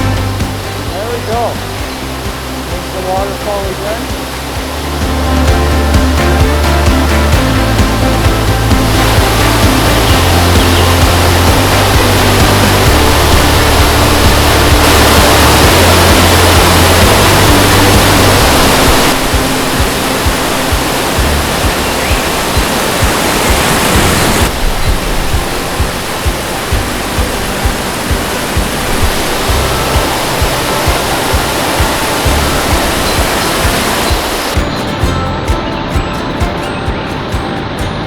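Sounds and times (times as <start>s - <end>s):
waterfall rushing: 0.0s - 37.8s
background music with beat: 0.0s - 38.0s.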